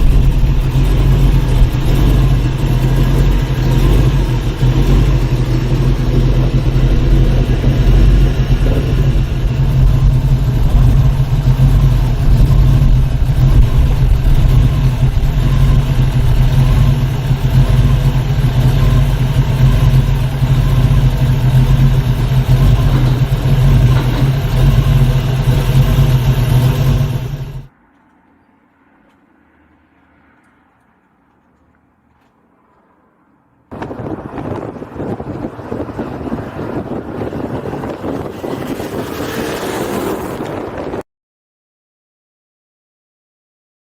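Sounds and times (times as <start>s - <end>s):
car engine running: 0.0s - 28.1s, 33.7s - 41.0s.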